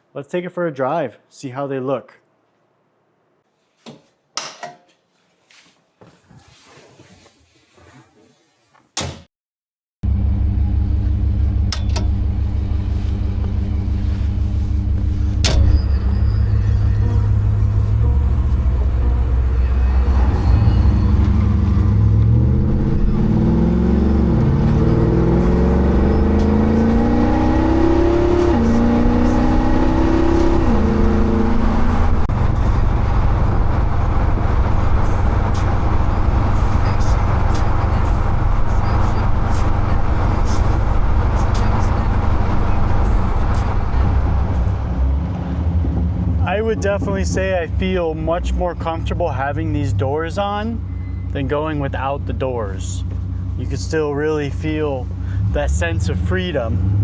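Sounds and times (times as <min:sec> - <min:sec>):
car engine and exhaust: 0:10.0 - 0:57.0
road noise: 0:10.1 - 0:57.0.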